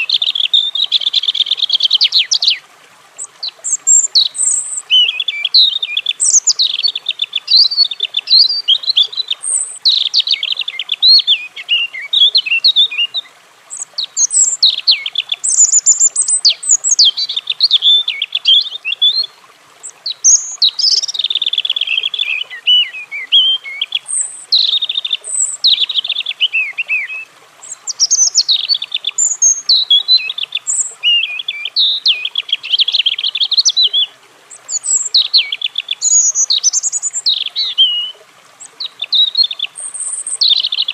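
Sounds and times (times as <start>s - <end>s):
robin singing: 0.0s - 2.6s, 3.2s - 40.9s.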